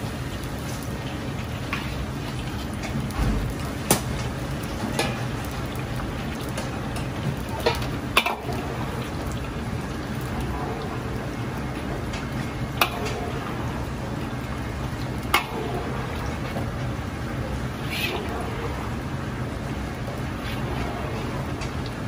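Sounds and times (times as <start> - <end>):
gas burner rumbling: 0.0 - 22.0
oil bubbling and sizzling: 0.0 - 22.0.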